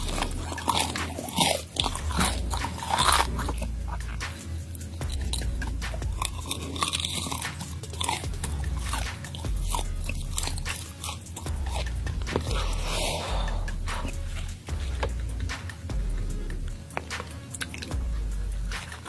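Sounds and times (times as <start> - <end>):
crunching and chewing: 0.0 - 19.0.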